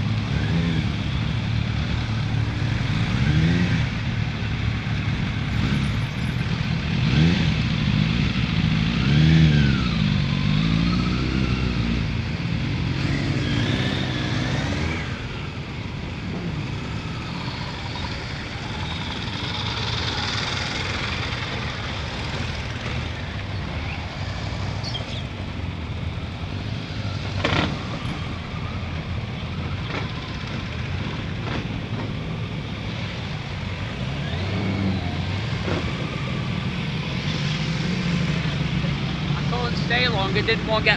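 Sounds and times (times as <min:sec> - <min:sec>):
motorcycles riding past: 0:00.0 - 0:40.9.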